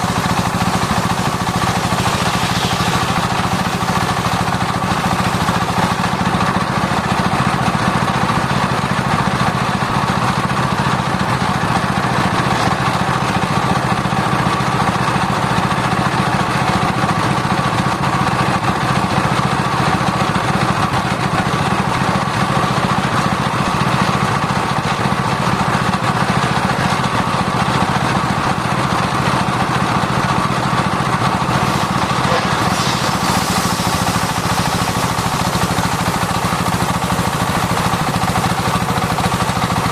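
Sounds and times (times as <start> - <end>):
sawmill running: 0.0 - 39.9.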